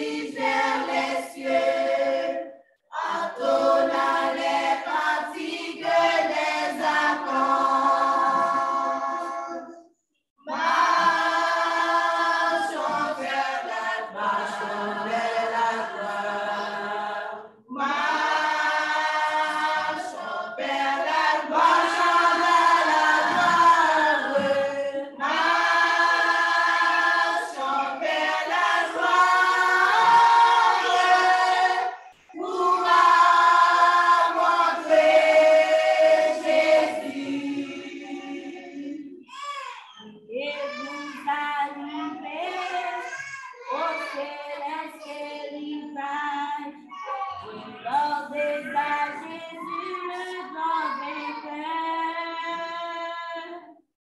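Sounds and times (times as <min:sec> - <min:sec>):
choir singing a hymn: 0:00.0 - 0:39.3, 0:40.1 - 0:53.8.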